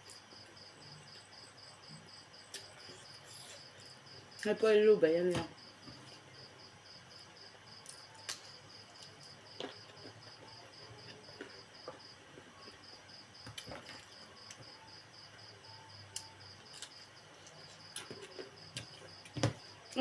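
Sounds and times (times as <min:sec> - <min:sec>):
faint eating clicks and smacks: 0:00.0 - 0:06.3, 0:07.7 - 0:14.8, 0:16.0 - 0:20.0
cricket chirping: 0:00.0 - 0:20.0.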